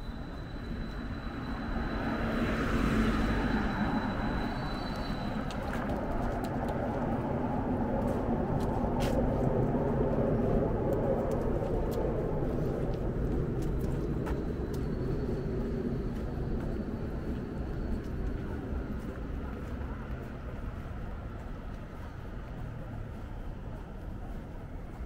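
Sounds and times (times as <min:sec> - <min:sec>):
city traffic noise: 0:00.0 - 0:25.0.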